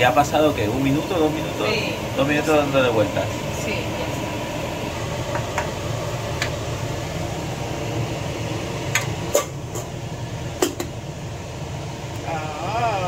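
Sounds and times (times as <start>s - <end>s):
kitchen extractor fan running: 0.0s - 13.0s.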